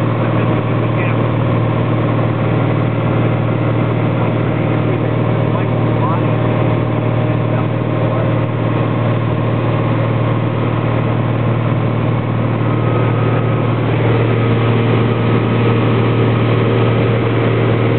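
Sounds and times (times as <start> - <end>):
light aircraft engine droning: 0.0 - 17.9.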